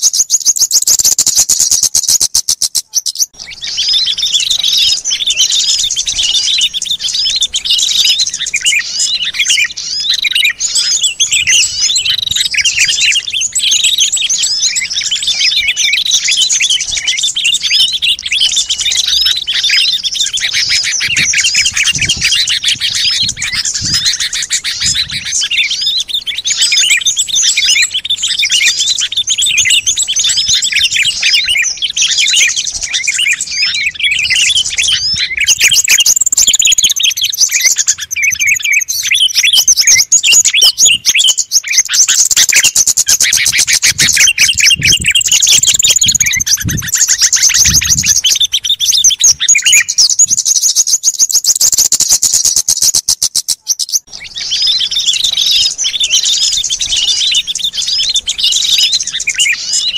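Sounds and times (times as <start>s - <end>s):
sliding whistled bird notes: 0.0s - 59.9s
songbirds chirping and trilling: 0.0s - 59.9s.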